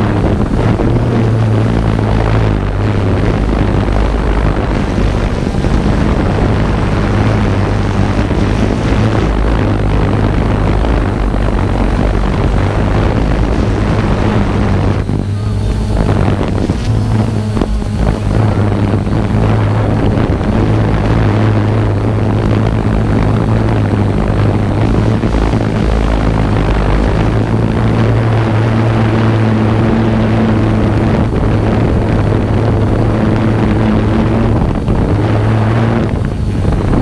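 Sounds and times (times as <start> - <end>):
drone propellers humming: 0.0 - 37.0.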